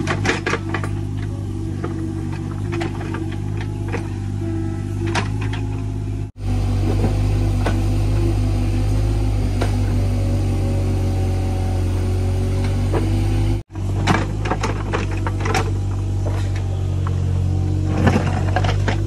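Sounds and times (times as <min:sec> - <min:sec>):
excavator diesel engine: 0:00.0 - 0:19.0.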